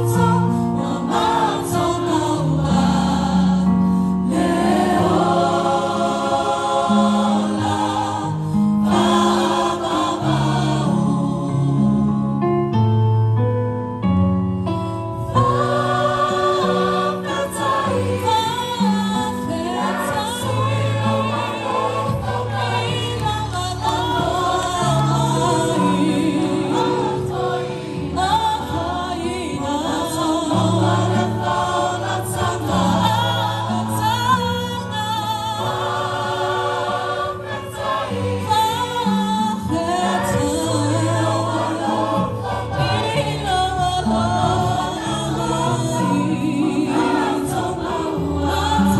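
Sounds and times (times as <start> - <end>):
choir singing a carol: 0.0 - 12.2, 15.2 - 48.9.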